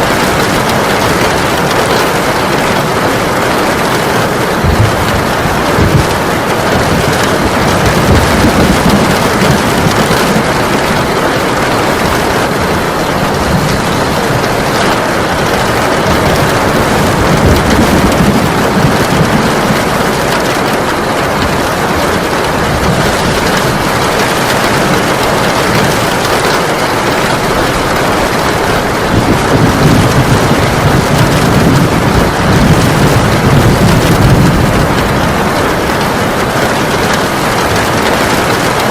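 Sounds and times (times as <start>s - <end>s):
heavy rain pouring: 0.0s - 38.9s
thunder rumbling: 0.0s - 38.9s.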